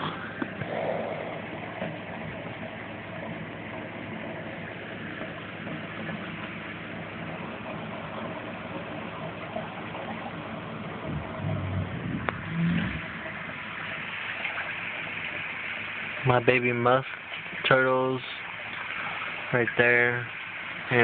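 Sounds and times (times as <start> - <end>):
aquarium filter humming: 0.0 - 21.0.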